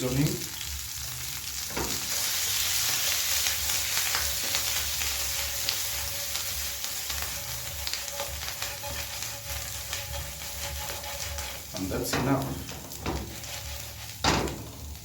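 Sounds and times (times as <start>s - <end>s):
fries sizzling in a pan: 0.0s - 15.0s.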